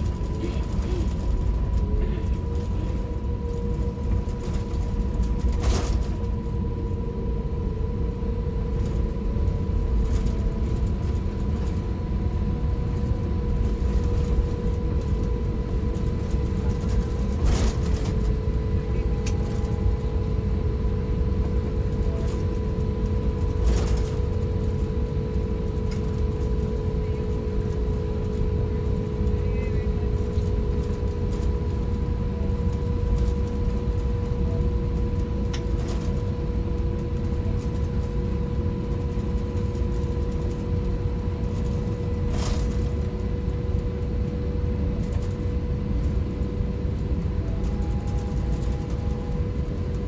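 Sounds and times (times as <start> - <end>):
hum and whine: 0.0 - 50.0
low cabin rumble: 0.0 - 50.0.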